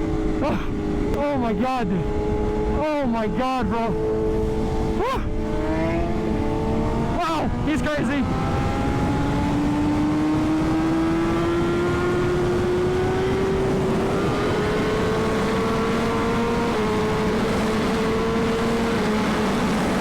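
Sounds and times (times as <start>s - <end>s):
motorcycle engine revving up: 0.0s - 20.0s
wind noise: 0.0s - 20.0s.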